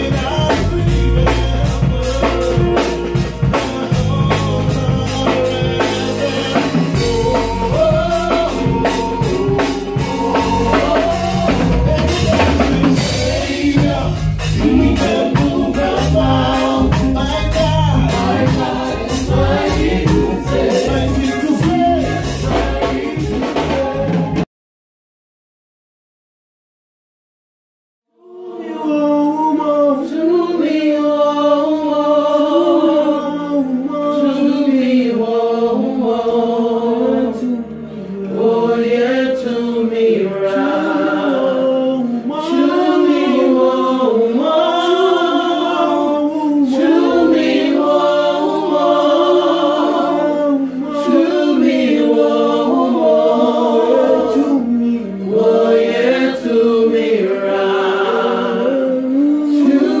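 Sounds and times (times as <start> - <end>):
group singing a cappella gospel: 0.0 - 24.5, 28.2 - 60.0.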